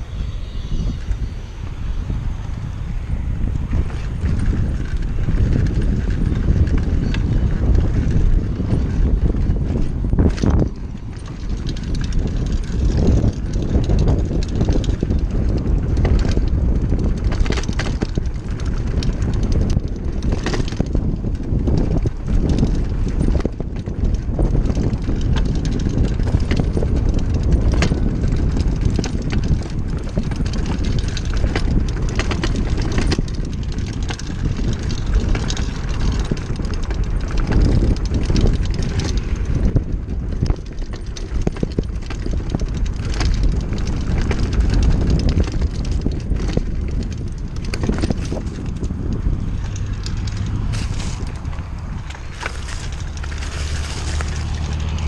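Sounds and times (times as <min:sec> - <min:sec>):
bike knocking and rattling: 0:00.0 - 0:55.0
tyres on dirt: 0:00.0 - 0:55.0
wind on microphone: 0:00.0 - 0:55.0.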